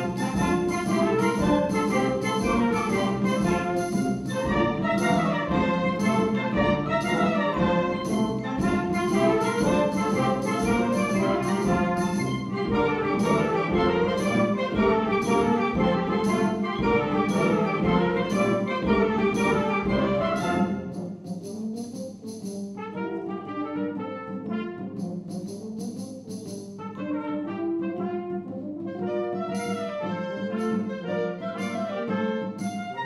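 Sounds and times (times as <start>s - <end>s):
percussion strikes: 0.0s - 22.9s, 24.5s - 27.0s, 29.5s - 33.0s
concert wind band playing: 0.0s - 33.0s.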